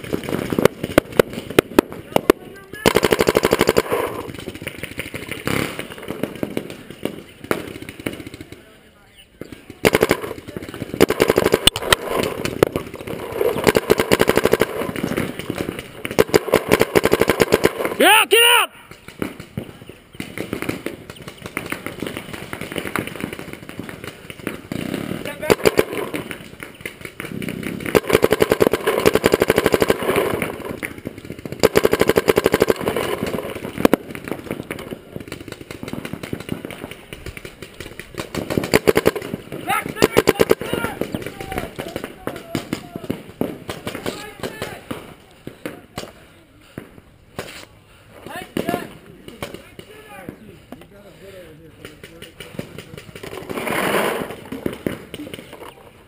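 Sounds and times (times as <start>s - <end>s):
paintball marker rapid firing: 0.0s - 18.0s, 18.8s - 45.1s, 51.7s - 55.8s
sharp crack: 0.0s - 50.4s, 51.7s - 56.0s.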